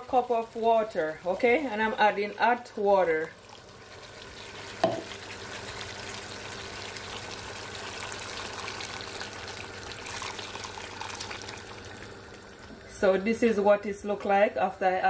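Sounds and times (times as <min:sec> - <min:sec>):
water pouring into a wok: 0:00.2 - 0:12.7.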